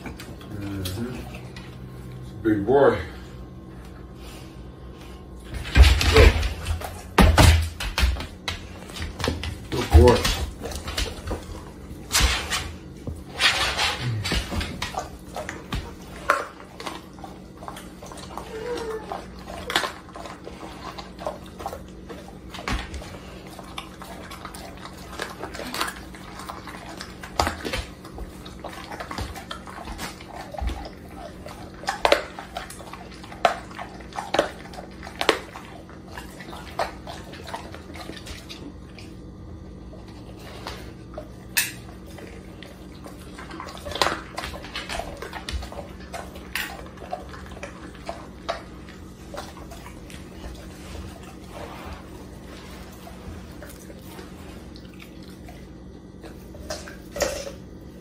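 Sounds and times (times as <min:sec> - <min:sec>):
dog chewing raw chicken: 0:00.0 - 0:58.0.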